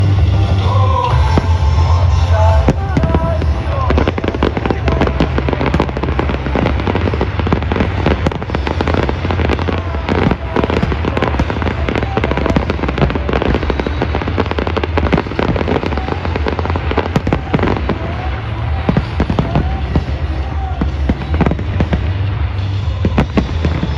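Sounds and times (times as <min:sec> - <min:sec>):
fireworks bangs and crackles: 0:00.0 - 0:23.9
steady low rumble: 0:00.0 - 0:23.9.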